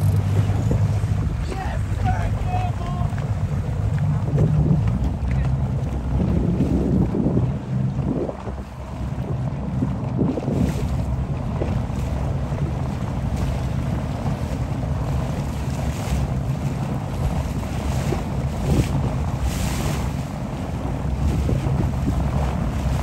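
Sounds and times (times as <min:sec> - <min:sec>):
choppy water splashing: 0:00.0 - 0:23.0
wind buffeting microphone: 0:00.0 - 0:23.0.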